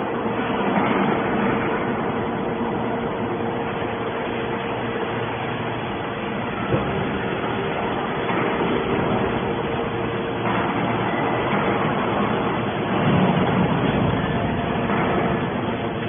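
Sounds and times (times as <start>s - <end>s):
hydraulic baler mechanical drone: 0.0s - 16.0s.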